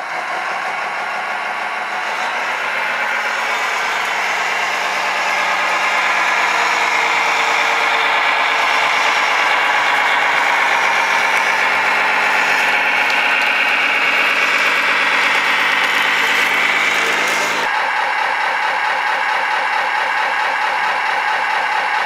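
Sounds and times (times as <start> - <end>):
toy truck engine drone: 0.0 - 22.0.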